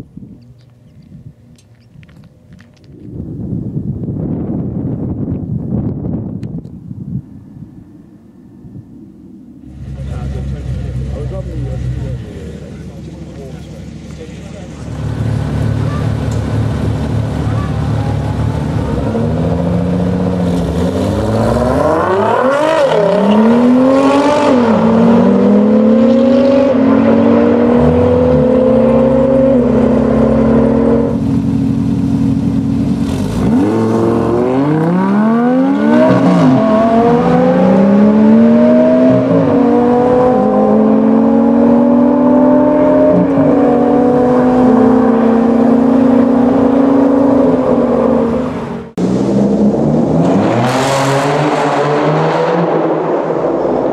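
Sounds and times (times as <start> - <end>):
rival car accelerating: 9.0 - 53.9
sports car engine accelerating: 9.6 - 53.9.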